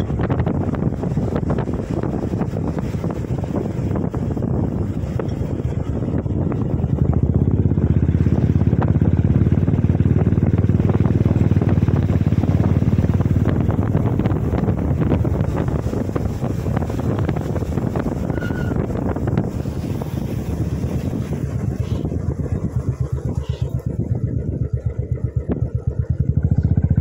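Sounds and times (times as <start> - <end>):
motorcycle engine running: 0.0 - 27.0
wind buffeting on microphone: 0.0 - 27.0.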